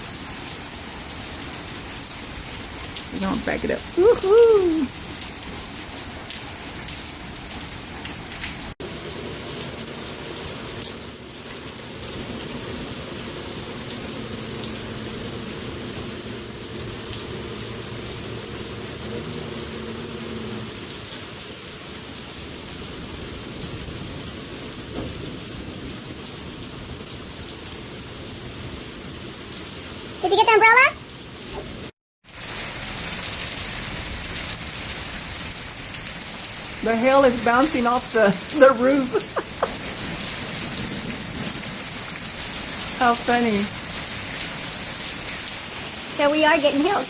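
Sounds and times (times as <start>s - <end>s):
rain falling on surfaces: 0.0s - 47.0s.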